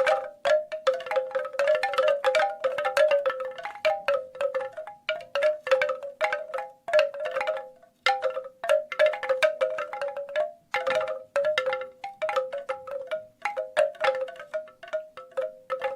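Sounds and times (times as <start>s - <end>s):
bamboo wind chimes knocking: 0.0s - 15.9s.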